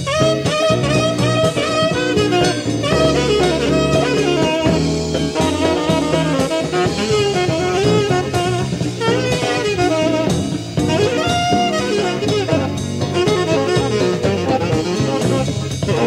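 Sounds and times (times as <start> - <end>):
bass notes: 0.0 - 16.0
drum kit: 0.0 - 16.0
saxophone melody: 0.0 - 16.0.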